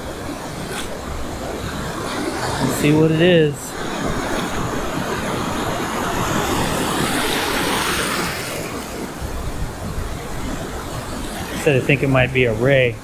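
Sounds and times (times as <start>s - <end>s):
ocean surf washing over sand: 0.0s - 13.0s.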